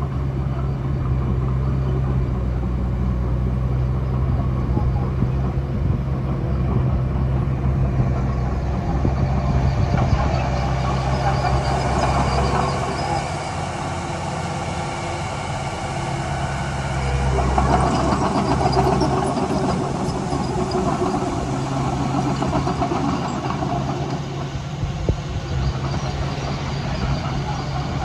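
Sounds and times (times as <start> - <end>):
heavy diesel machinery engine: 0.0 - 28.0.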